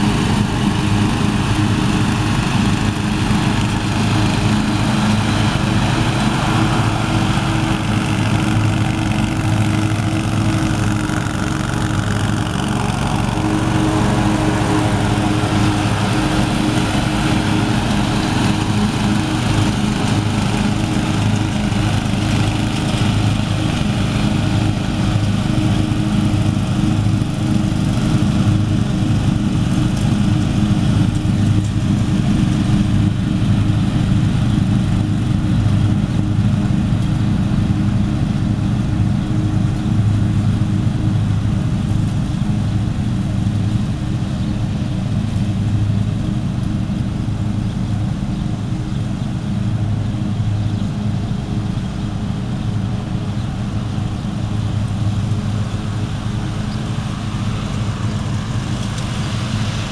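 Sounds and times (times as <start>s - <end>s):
mower petrol engines running: 0.0s - 59.9s
riding lawn tractor engine: 0.0s - 59.9s.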